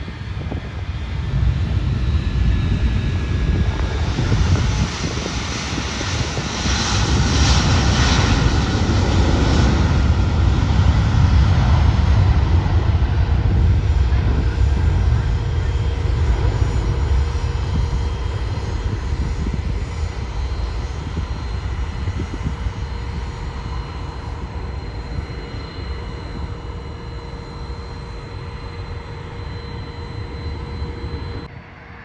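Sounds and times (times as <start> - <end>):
airplane engines rumbling and whining: 0.0 - 32.0.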